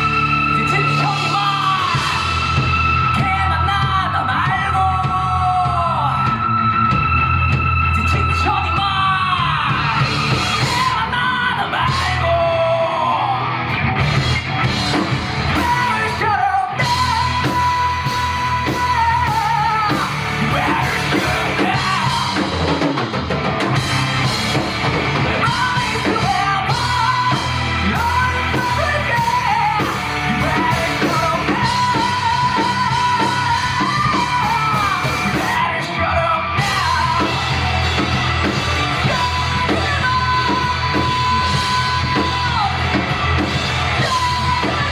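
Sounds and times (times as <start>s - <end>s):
rock band playing: 0.0s - 44.9s.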